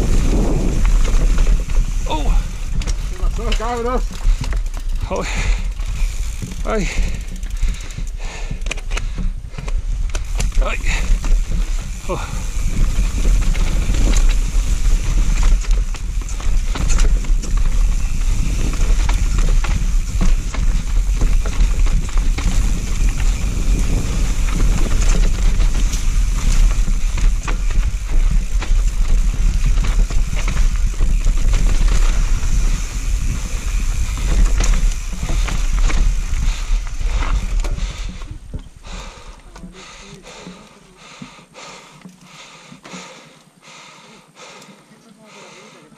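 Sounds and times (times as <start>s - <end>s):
wind buffeting microphone: 0.0s - 40.4s
mountain bike clattering: 0.0s - 43.8s.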